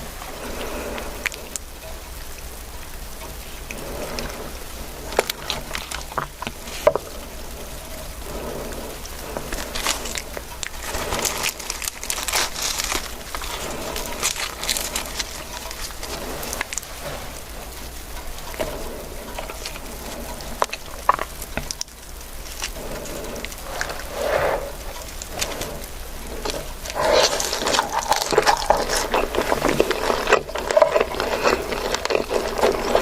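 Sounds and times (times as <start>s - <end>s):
food crinkling and crackling: 0.0s - 33.0s.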